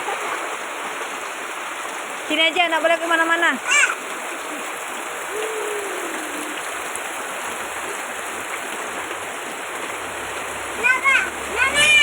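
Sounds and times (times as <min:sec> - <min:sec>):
heavy rain pouring: 0:00.0 - 0:12.0
running water: 0:00.0 - 0:12.0.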